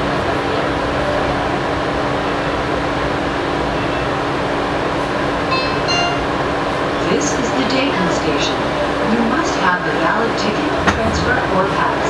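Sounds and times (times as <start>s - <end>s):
rail car rumbling: 0.0s - 12.0s.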